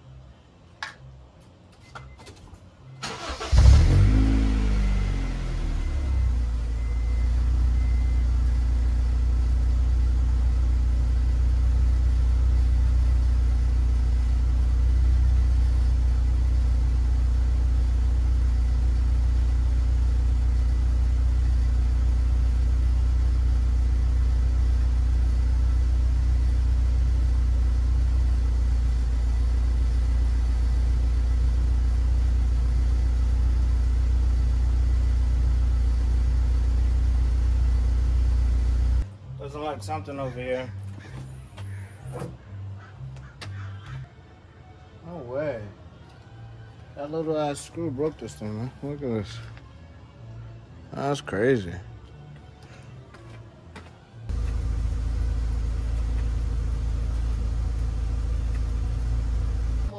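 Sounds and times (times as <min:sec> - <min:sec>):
car engine idling: 0:02.8 - 0:44.0, 0:52.9 - 0:59.9.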